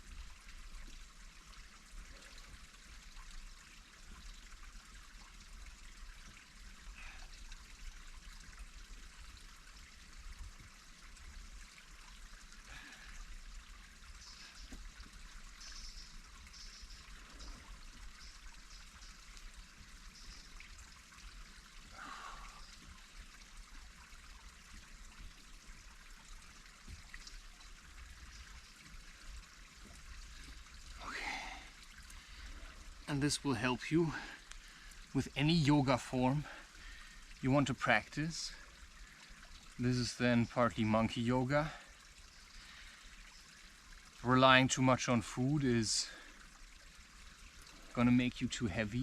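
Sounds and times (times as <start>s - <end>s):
trickle of running water: 0.0s - 49.0s.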